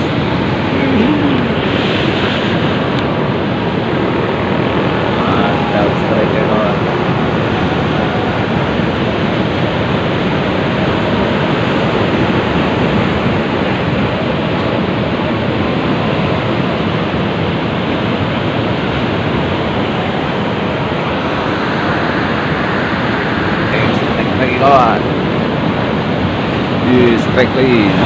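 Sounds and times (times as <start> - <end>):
waves rushing: 0.0 - 28.0
wind: 0.0 - 28.0.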